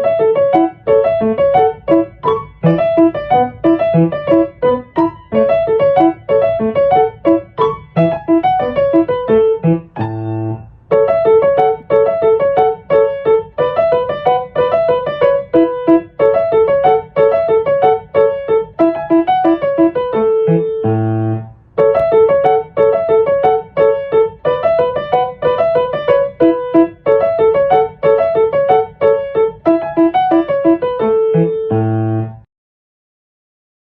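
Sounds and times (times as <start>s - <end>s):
piano music: 0.0s - 32.5s.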